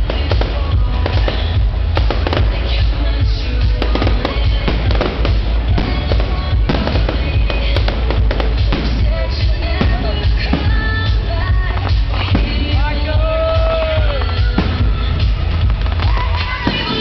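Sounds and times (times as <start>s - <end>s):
fireworks bursting and crackling: 0.0s - 17.0s
loud music with heavy bass: 0.0s - 17.0s.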